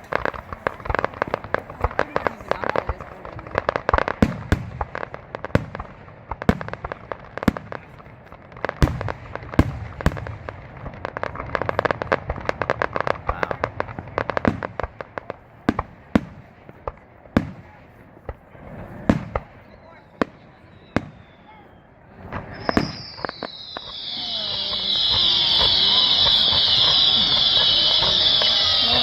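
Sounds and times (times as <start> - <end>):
fireworks bangs and pops: 0.0 - 29.0
fireworks crackling: 0.0 - 29.0.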